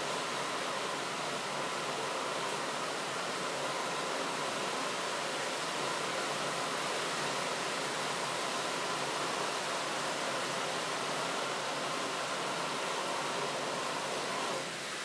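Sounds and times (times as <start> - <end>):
camping stove burner hissing: 0.0 - 15.0.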